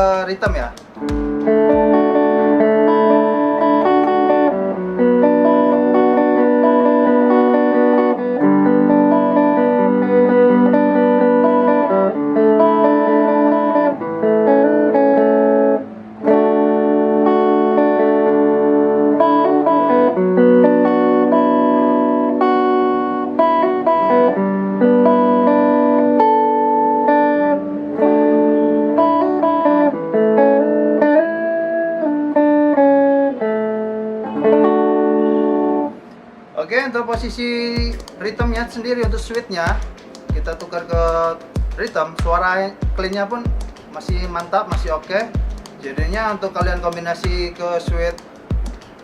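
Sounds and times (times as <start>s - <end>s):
electric guitar ringing chords: 0.0s - 49.0s.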